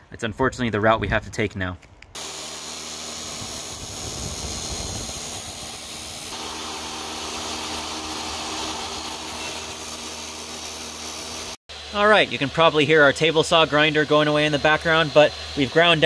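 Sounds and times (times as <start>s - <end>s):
saw motor running: 2.2s - 16.0s.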